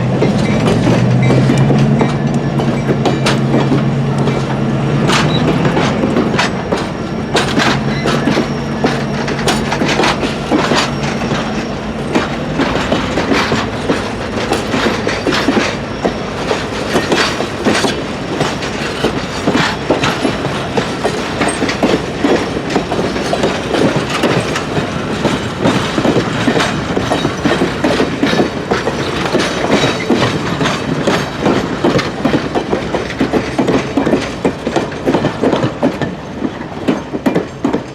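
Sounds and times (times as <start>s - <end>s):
locomotive diesel engine: 0.0s - 35.6s
train wheels clattering: 0.0s - 37.9s.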